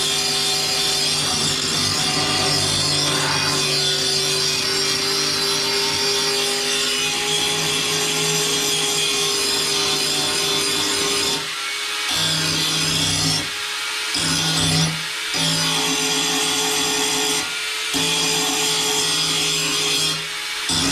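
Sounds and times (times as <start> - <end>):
angle grinder on metal: 0.0 - 20.9.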